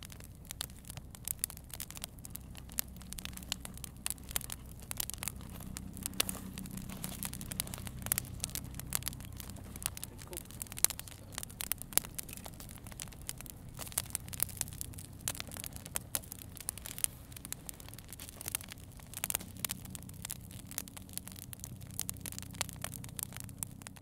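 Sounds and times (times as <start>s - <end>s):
campfire crackling and popping: 0.0s - 24.0s
low steady rumble: 0.0s - 24.0s.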